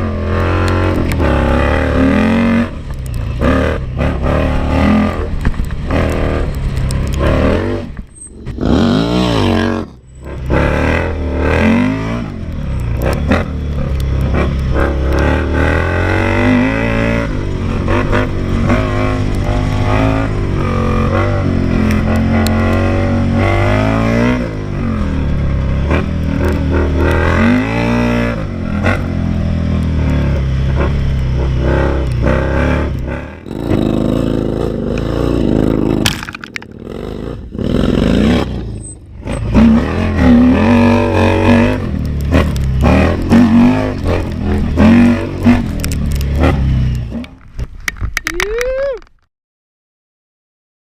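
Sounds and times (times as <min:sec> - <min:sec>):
motorcycle engine revving: 0:00.0 - 0:48.3.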